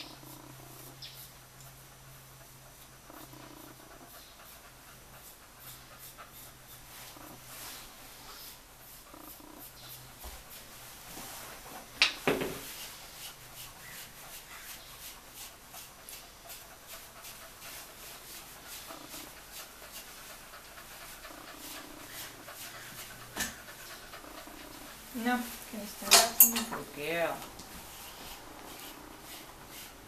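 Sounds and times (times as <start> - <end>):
dog panting: 0.0 - 12.0, 12.6 - 30.0.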